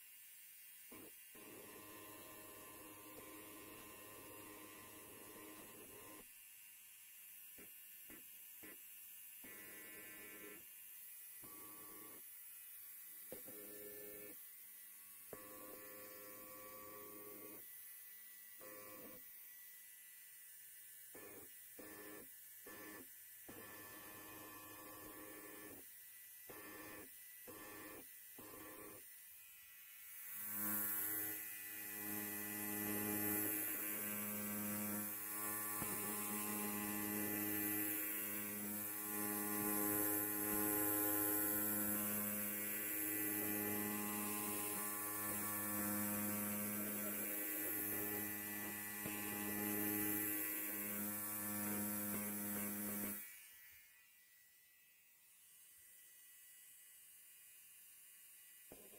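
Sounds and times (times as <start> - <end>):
electric hair clipper buzzing: 0.0 - 58.9.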